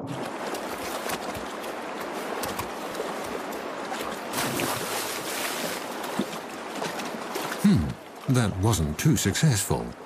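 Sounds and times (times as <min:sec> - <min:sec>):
stream water rushing: 0:00.0 - 0:10.0
water splashing: 0:00.0 - 0:10.0.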